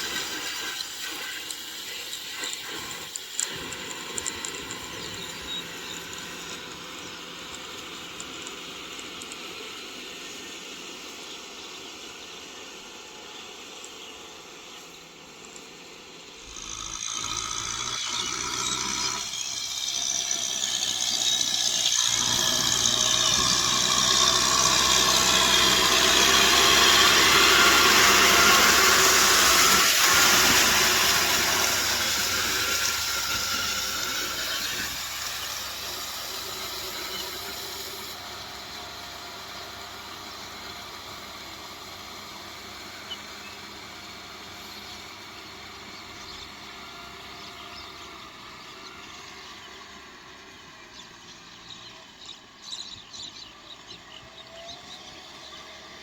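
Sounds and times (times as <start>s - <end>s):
rotavator tilling: 0.0s - 56.0s
tractor diesel engine running: 0.0s - 56.0s.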